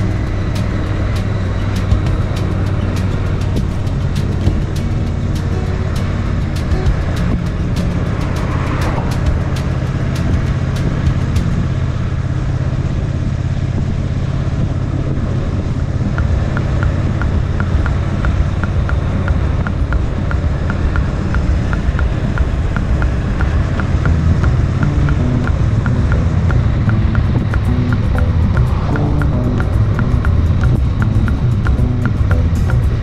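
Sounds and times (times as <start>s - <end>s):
light regular ticking: 0.0s - 11.7s, 15.9s - 33.0s
motorcycle engine running: 0.0s - 33.0s.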